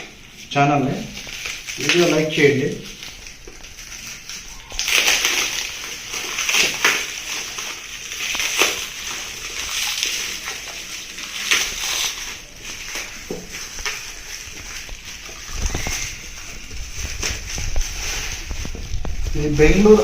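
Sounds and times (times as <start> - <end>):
packaging rustling: 0.0 - 20.0.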